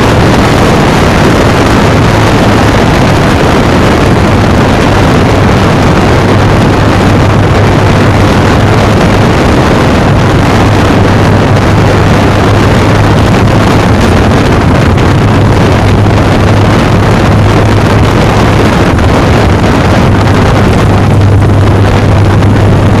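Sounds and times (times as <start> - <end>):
motorcycle engine running: 0.0 - 23.0
wind rush on microphone: 0.0 - 23.0.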